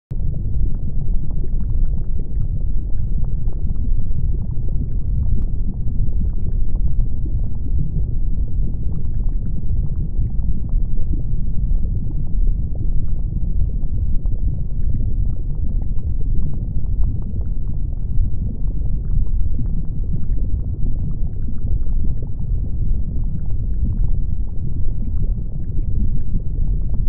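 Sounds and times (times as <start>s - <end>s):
lava crackling and popping: 0.1s - 27.0s
low volcanic rumble: 0.1s - 27.0s.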